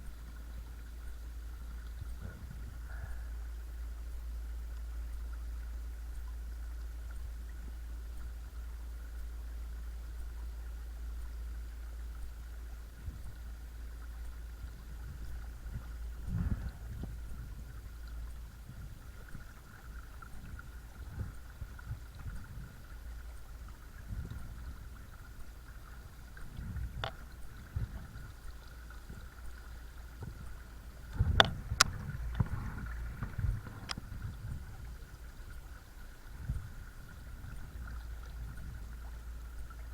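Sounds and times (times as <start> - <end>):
water and wind rumble: 0.0 - 39.9.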